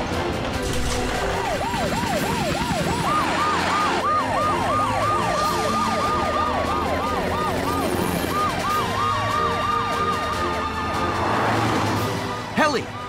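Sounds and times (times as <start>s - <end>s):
fast wailing siren: 1.1s - 13.0s
higher siren: 1.1s - 13.0s.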